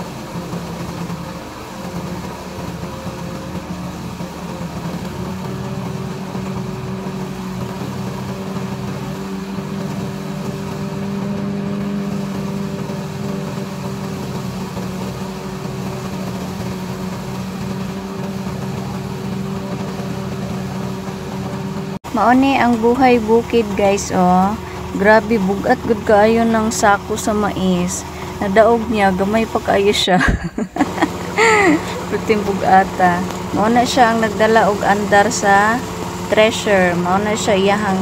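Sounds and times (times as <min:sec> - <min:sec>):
corn thresher mechanical hum: 0:00.0 - 0:38.0
tractor engine running: 0:00.0 - 0:38.0.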